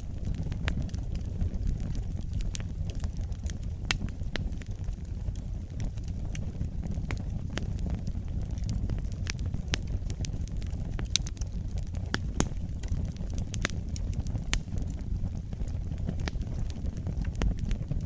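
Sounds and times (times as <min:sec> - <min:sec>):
fireplace fire crackling: 0:00.0 - 0:18.0.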